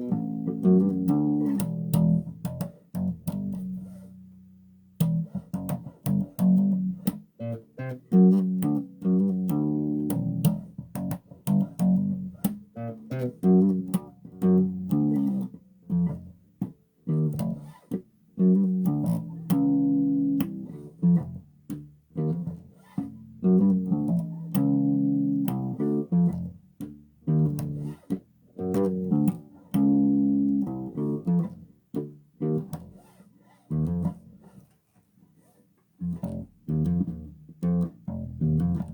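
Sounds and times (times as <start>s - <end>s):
bass guitar plucked notes: 0.0s - 33.0s, 33.7s - 34.4s, 36.0s - 38.9s.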